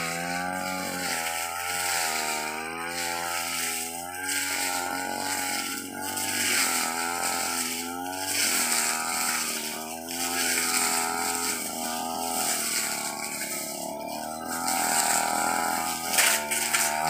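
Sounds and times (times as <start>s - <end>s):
brush cutter engine cutting grass: 0.0s - 17.0s.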